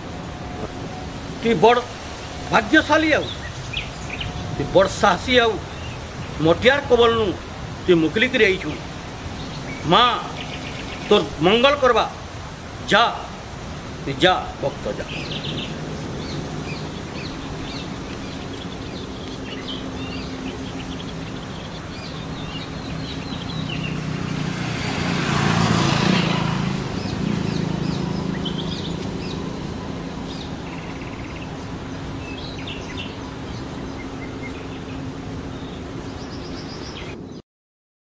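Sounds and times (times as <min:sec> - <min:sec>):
small birds chirping: 0:00.0 - 0:12.3, 0:13.4 - 0:37.4
rushing noise: 0:00.0 - 0:37.3.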